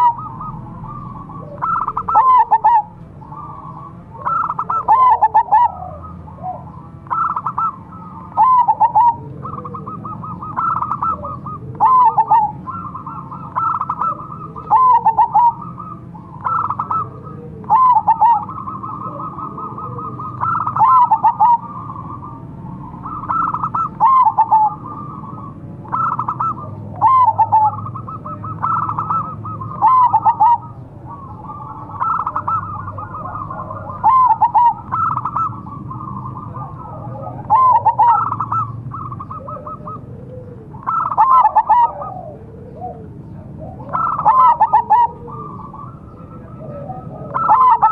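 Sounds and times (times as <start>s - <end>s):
dove cooing song: 0.0s - 47.9s.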